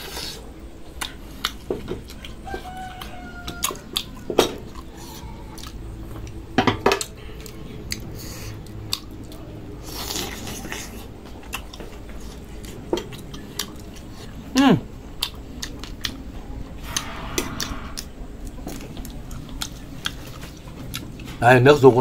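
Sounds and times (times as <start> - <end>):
chewing: 0.0 - 14.5, 15.1 - 21.4.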